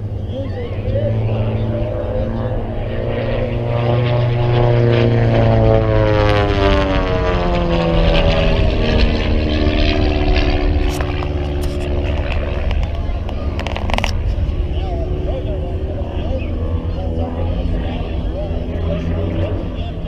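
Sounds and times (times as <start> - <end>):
propeller airplane flying past: 0.0 - 20.0.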